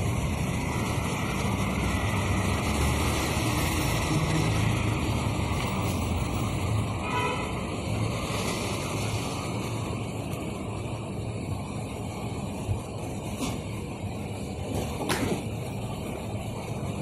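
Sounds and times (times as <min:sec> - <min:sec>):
rumbling background noise: 0:00.0 - 0:17.0.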